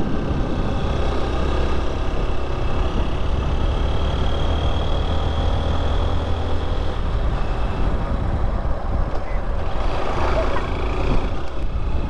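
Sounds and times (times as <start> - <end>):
motorcycle engine drone: 0.0 - 12.0
wind rumble on microphone: 0.0 - 12.0.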